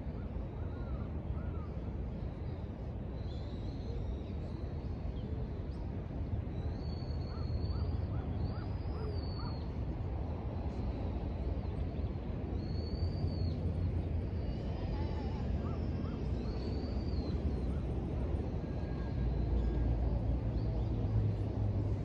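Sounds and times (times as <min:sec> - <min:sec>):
low city rumble: 0:00.0 - 0:22.0.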